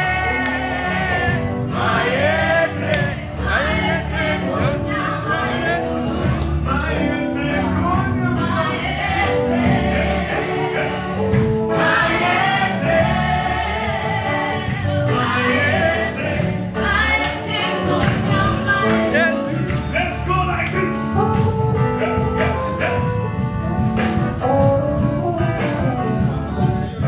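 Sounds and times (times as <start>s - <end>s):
choir singing gospel: 0.0s - 24.4s
instrumental backing: 0.0s - 27.0s.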